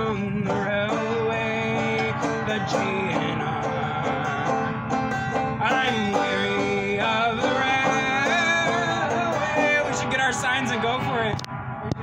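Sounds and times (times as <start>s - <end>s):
man singing: 0.0s - 4.6s, 5.6s - 11.4s
banjo strumming: 0.0s - 11.5s.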